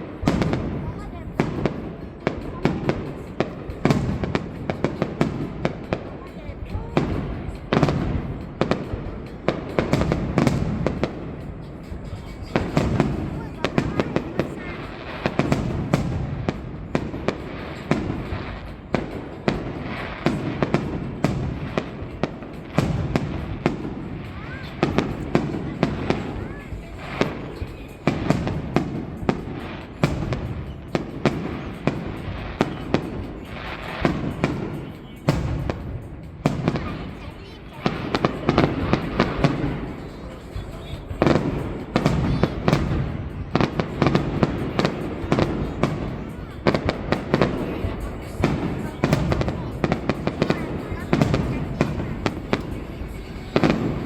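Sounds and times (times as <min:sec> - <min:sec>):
fireworks bursting with sharp bangs: 0:00.0 - 0:54.0.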